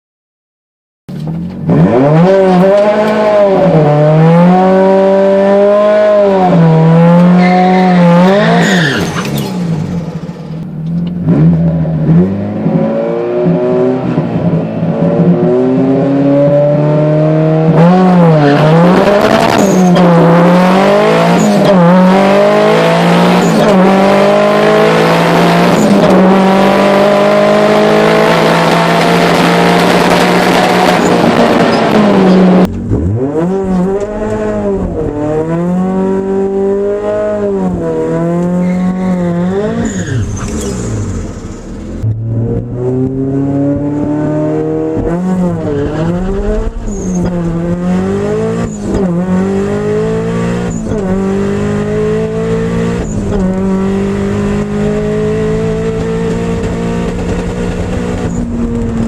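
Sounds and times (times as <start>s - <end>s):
car engine revving: 1.2s - 59.0s.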